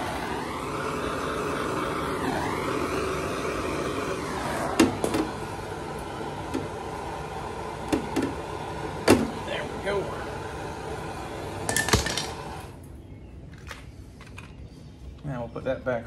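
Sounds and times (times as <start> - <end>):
propane torch hissing: 0.0 - 12.9.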